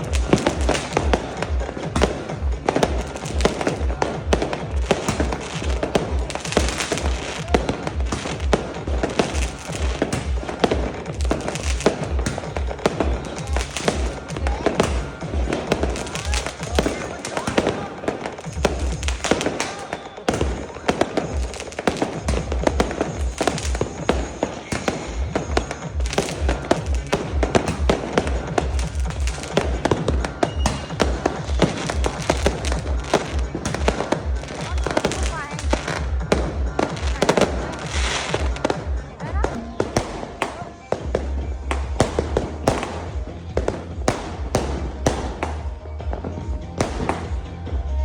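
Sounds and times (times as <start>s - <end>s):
music with bass beat: 0.0s - 19.6s, 20.3s - 48.0s
fireworks banging and crackling: 0.0s - 48.0s.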